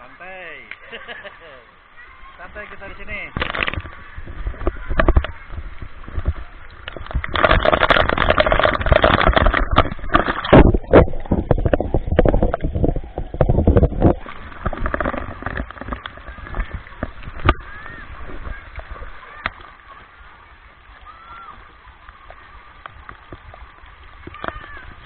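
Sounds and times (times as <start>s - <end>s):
water splashing and pouring: 2.0s - 25.0s.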